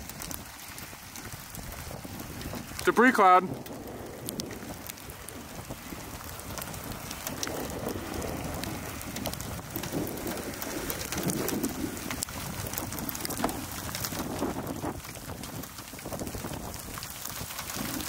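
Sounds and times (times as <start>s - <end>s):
gusty wind buffeting microphone: 0.0s - 18.0s
raindrops ticking: 0.0s - 18.0s.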